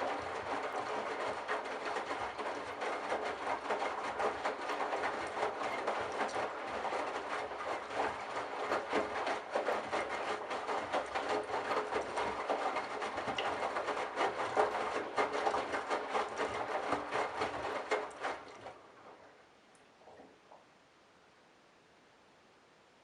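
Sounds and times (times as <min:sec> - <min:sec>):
washing machine drum churning: 0:00.0 - 0:19.4.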